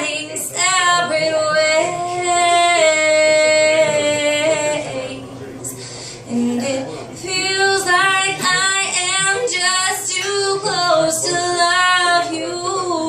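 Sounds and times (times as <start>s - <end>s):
woman singing: 0.0s - 5.3s, 6.3s - 13.0s.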